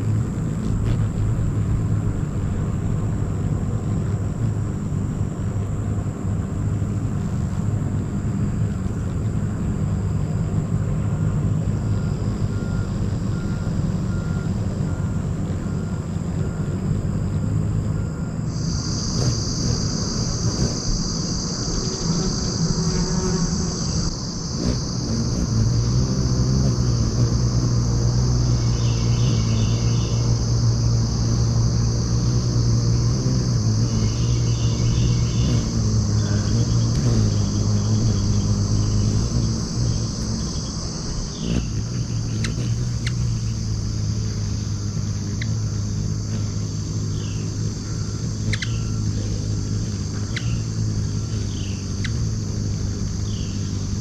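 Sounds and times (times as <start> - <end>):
crickets chirping: 0.0 - 54.0
hummingbird wing hum: 0.0 - 54.0.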